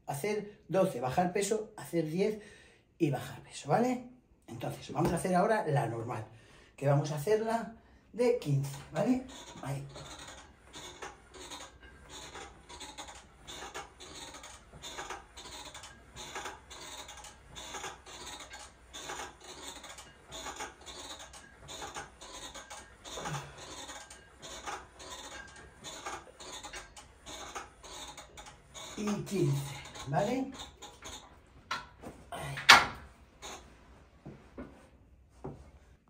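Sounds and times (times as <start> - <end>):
exercise machine clicking and rubbing: 4.5 - 6.2, 6.9 - 36.0.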